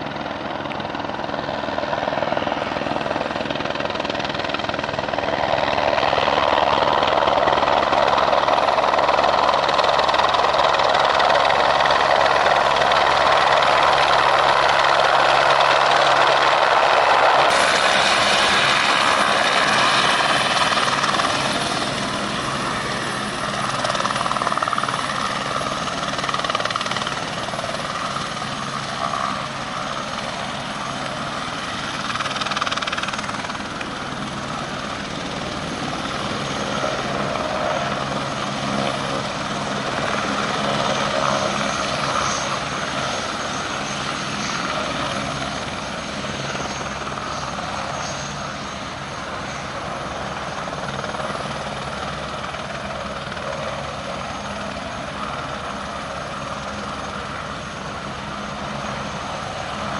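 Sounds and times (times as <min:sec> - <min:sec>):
helicopter hovering: 0:00.0 - 0:59.9.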